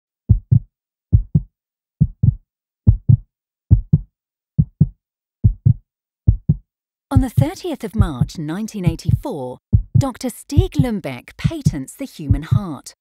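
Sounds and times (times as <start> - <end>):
heartbeat: 0.3 - 12.8.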